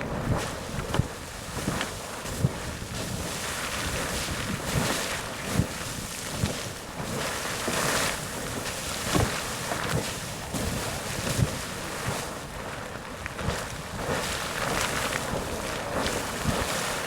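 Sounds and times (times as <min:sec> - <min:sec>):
geyser water rushing: 0:00.0 - 0:17.0
water splashing bursts: 0:00.0 - 0:17.0
wind buffeting microphone: 0:00.0 - 0:17.0.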